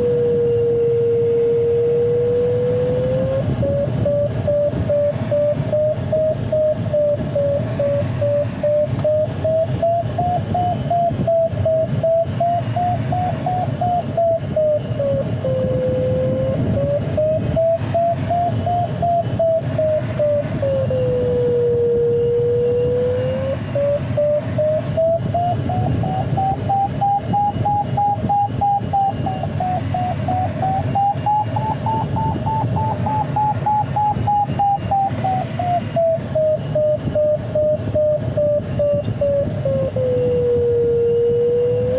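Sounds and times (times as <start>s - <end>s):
airflow rushing around cockpit: 0.0s - 41.9s
variometer continuous wavering tone: 0.0s - 41.9s.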